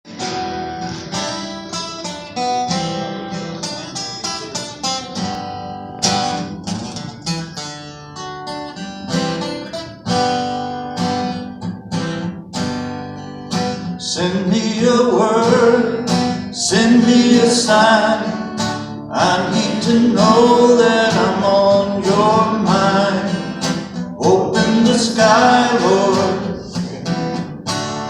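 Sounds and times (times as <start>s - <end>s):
acoustic guitar plucked notes: 0.1s - 28.0s.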